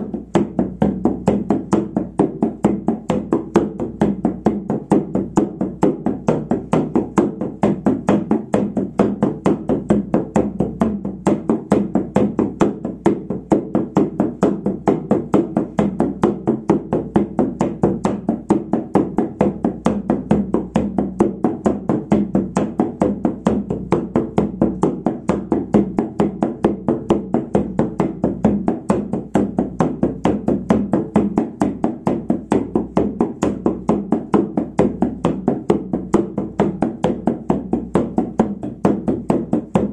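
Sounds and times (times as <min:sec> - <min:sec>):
frame drum beating: 0:00.0 - 0:39.9.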